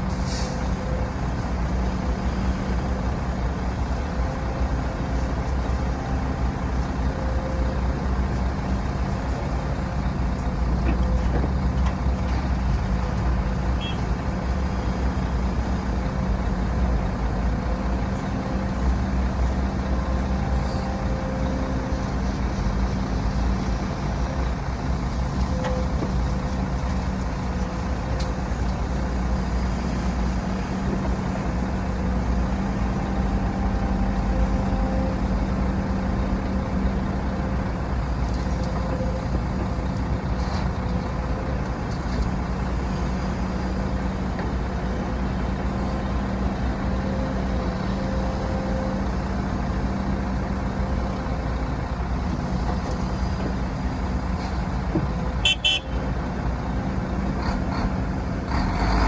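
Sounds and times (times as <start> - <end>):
low diesel engine drone: 0.0 - 59.0.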